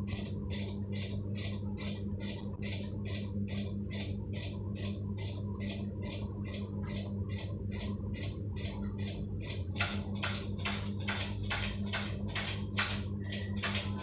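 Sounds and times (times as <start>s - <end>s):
electric fan motor hum: 0.0s - 14.0s.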